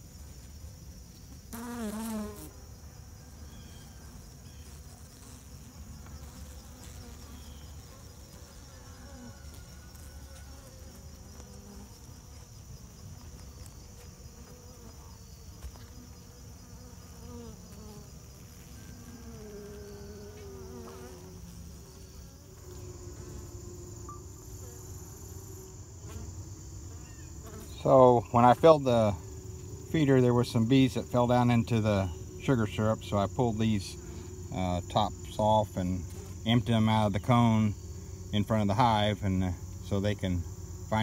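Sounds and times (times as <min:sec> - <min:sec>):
high-pitched insect trill: 0:00.0 - 0:41.0
honeybees buzzing: 0:00.0 - 0:41.0.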